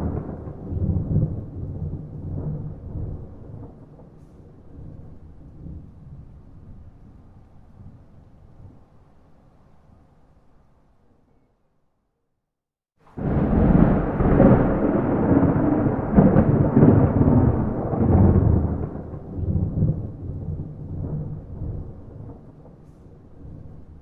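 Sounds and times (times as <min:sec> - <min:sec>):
thunder rumbling: 0:00.0 - 0:08.9, 0:13.0 - 0:24.0.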